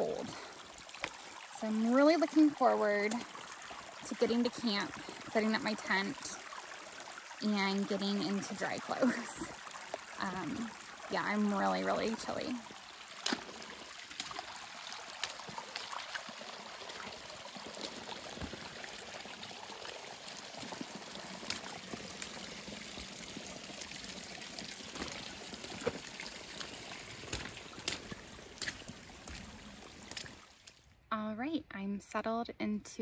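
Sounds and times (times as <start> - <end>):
water running down rocks: 0.0 - 30.8.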